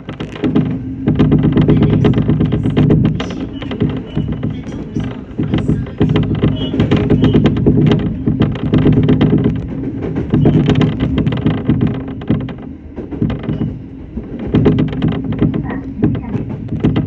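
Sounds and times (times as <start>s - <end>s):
train running gear hum: 0.0s - 17.0s
wheels clattering and rattles: 0.0s - 17.0s.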